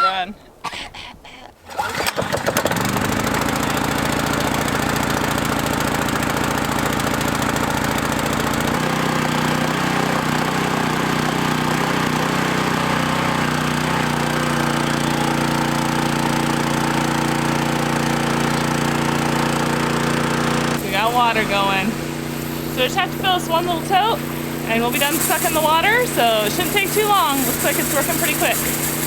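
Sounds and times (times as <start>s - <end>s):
water pump engine running: 1.7s - 29.0s.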